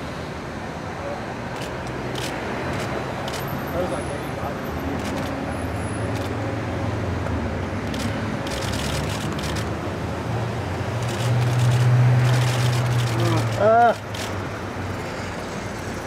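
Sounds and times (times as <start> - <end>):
road vehicle engine hum: 0.0 - 16.0.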